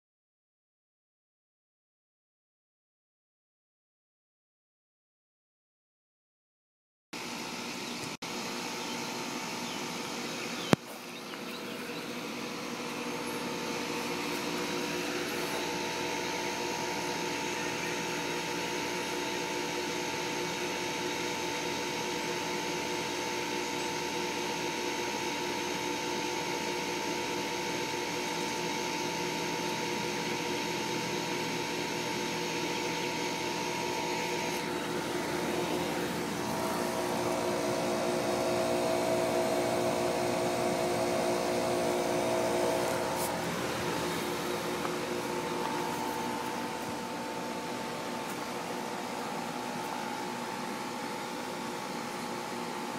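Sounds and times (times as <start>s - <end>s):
compressor hum: 7.2s - 52.9s
fan rushing: 7.2s - 52.9s.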